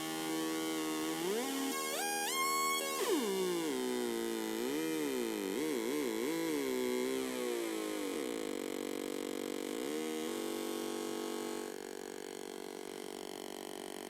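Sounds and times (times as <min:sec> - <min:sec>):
synth droning buzzy tones: 0:00.0 - 0:14.0.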